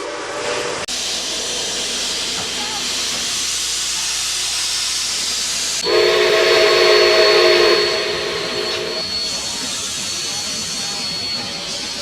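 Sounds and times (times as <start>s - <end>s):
steam hissing: 0.0s - 12.0s
steam locomotive whistle: 0.0s - 12.0s.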